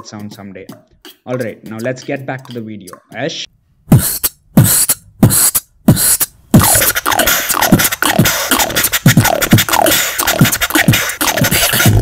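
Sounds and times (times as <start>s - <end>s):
beatboxed kick drums: 0.0s - 12.0s
beatboxed scratch sounds: 0.0s - 12.0s.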